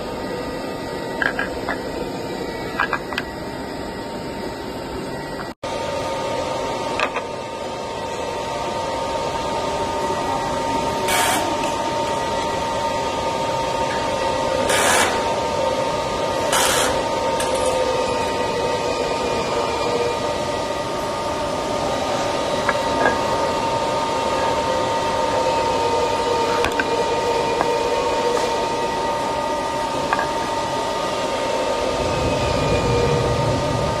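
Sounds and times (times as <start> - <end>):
drilling machine whine: 0.0 - 34.0.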